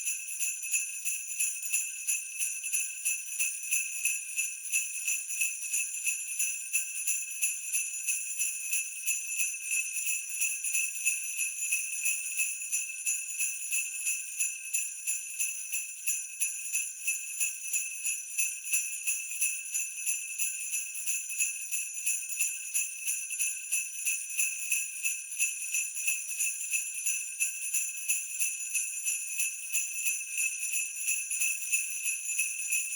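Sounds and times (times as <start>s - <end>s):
sleigh bells jingling: 0.0s - 32.9s.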